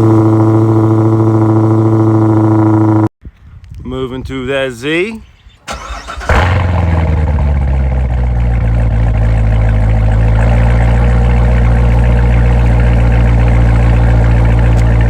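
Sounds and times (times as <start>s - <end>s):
car engine idling: 0.0s - 3.1s, 5.7s - 15.0s.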